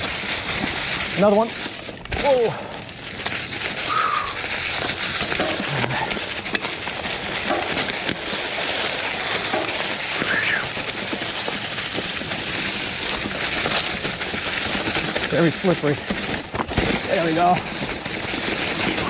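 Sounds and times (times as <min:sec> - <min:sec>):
bike frame rattling: 0:00.0 - 0:19.0
bike tyres rolling on leaves: 0:00.0 - 0:19.0.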